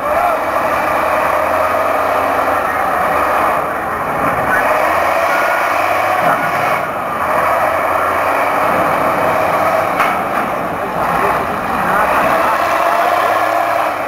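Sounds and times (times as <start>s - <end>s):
background voices: 0.0s - 14.0s
diesel engine running: 0.0s - 14.0s.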